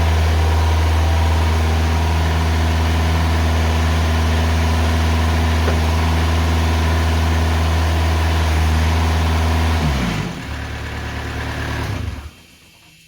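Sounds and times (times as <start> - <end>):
sawmill engine running: 0.0 - 12.6.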